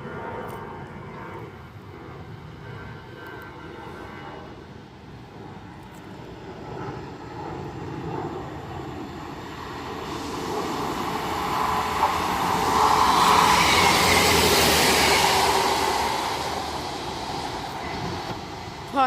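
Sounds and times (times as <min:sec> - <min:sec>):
diesel train approaching: 0:01.6 - 0:19.0.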